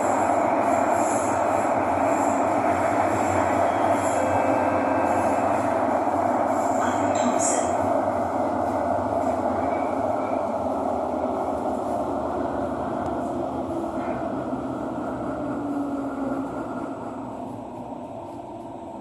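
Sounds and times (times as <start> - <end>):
metro train rumble in tunnel: 0.0 - 19.0.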